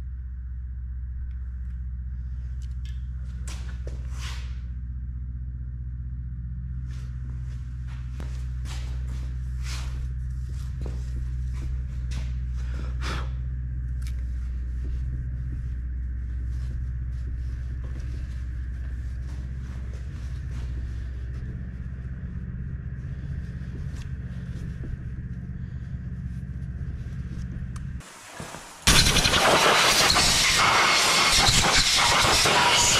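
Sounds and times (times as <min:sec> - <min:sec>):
low machine hum: 0:00.0 - 0:32.9.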